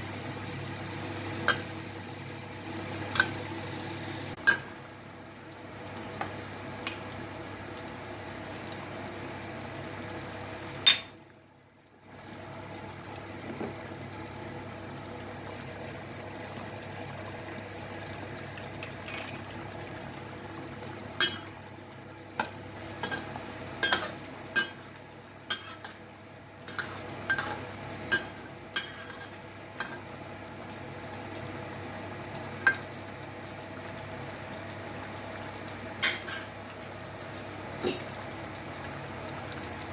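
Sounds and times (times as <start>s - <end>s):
curry simmering hiss: 0.0s - 39.9s.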